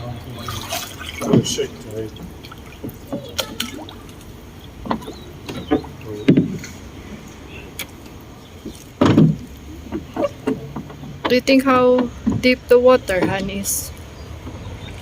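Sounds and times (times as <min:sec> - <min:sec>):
oars knocking and splashing: 0:00.0 - 0:15.0.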